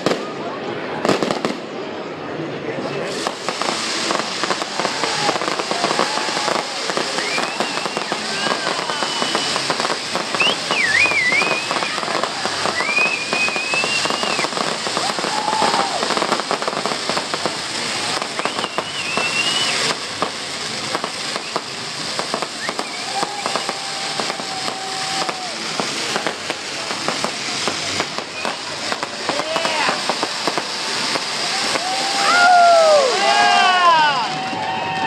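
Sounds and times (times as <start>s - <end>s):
fireworks crackling: 0.0s - 35.0s
high firework whistles: 3.1s - 35.0s.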